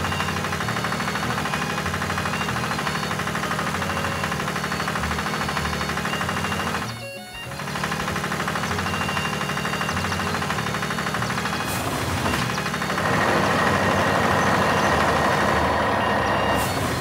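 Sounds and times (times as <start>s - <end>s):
high-pitched machine noise: 0.0s - 17.0s
tractor engine running: 0.0s - 17.0s.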